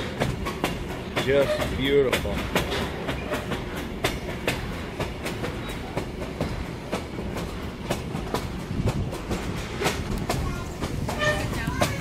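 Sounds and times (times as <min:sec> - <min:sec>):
train coach rumble: 0:00.0 - 0:12.0
wheel clicks over rail joints: 0:00.0 - 0:12.0.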